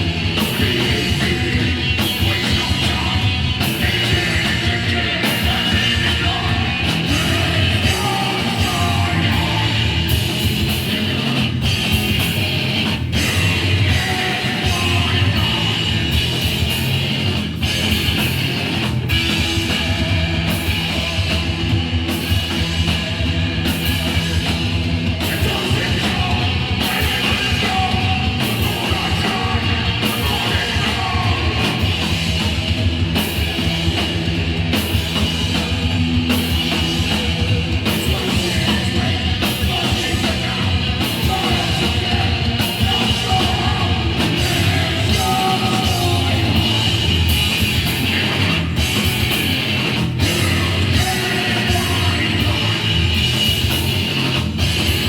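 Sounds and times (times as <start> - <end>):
punk band playing live: 0.0 - 55.0.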